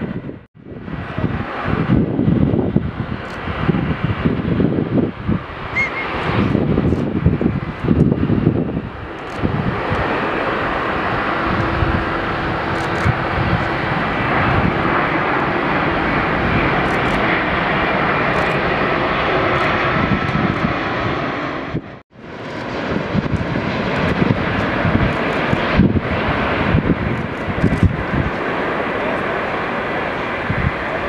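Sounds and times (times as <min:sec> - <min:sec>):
jet airliner passing low: 0:00.0 - 0:31.0.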